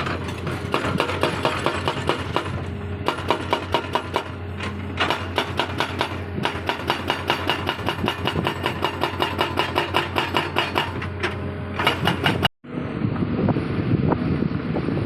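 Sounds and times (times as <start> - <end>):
hydraulic breaker hammering: 0.0 - 12.5
excavator engine hum: 0.0 - 15.0.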